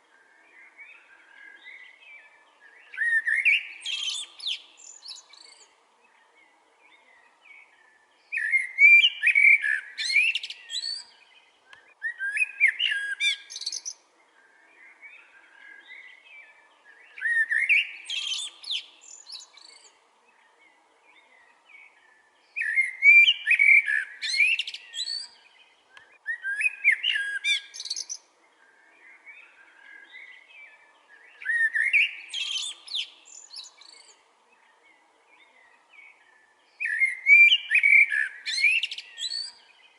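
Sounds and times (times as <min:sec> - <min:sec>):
quiet bird chirps: 0:00.0 - 0:39.9
songbird singing phrases: 0:00.0 - 0:39.9.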